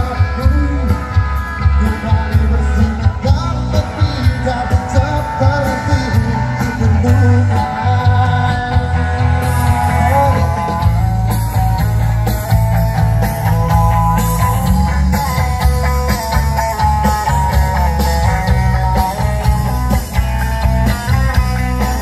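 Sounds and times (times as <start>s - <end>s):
pop-rock music over loudspeakers: 0.0s - 22.0s.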